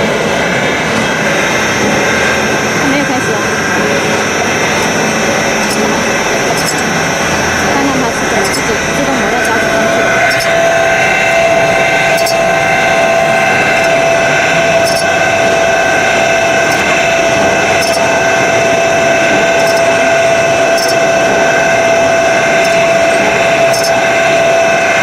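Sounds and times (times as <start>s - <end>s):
grinding machine whine: 0.0s - 25.0s.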